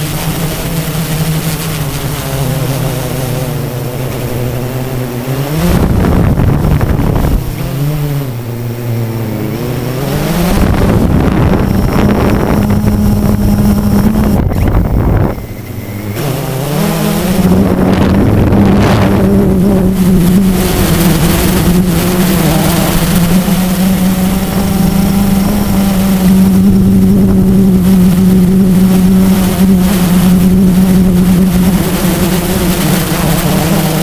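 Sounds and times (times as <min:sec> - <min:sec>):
quadcopter motors buzzing: 0:00.0 - 0:34.0
wind on microphone: 0:00.0 - 0:34.0.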